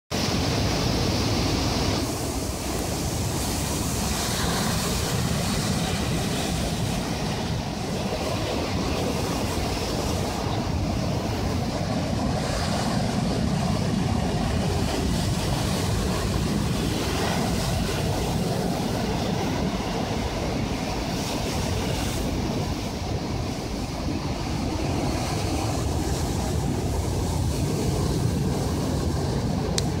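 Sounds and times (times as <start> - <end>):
sea surf washing onto shore: 0.1 - 30.0
wind buffeting microphone: 0.1 - 30.0.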